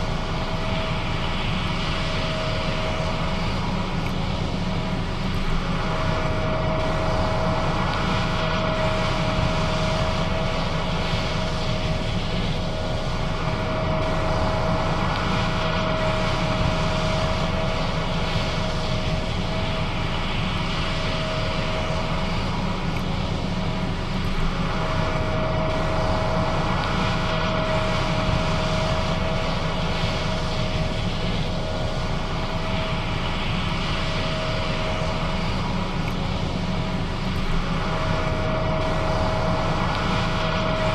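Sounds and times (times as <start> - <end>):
combine harvester drone: 0.0 - 40.9
steady mechanical whine: 0.0 - 40.9.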